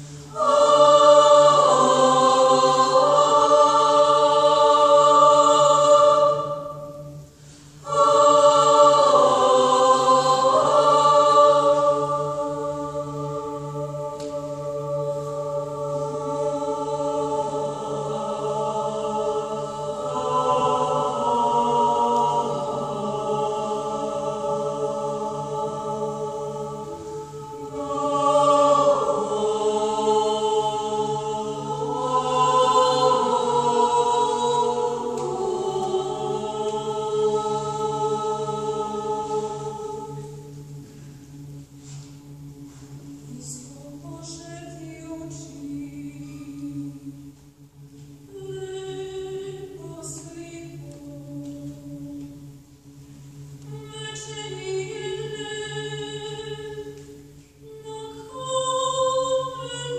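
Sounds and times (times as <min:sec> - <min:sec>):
mixed choir singing in harmony: 0:00.0 - 0:59.9.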